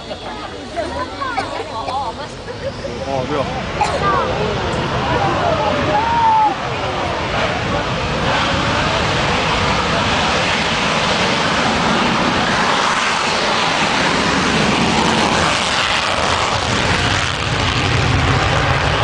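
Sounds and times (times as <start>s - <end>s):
fighter jet engines roaring: 0.0s - 19.0s.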